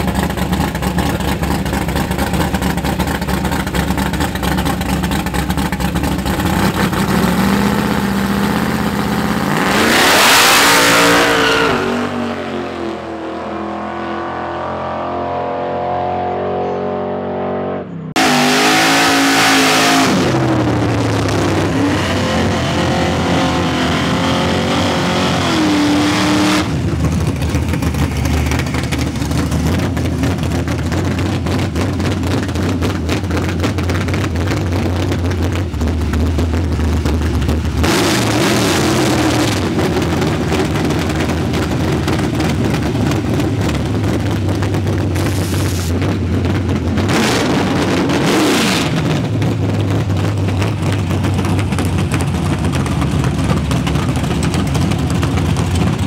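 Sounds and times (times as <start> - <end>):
drag race engine accelerating: 0.0 - 56.0
race engine at full throttle: 0.0 - 56.0.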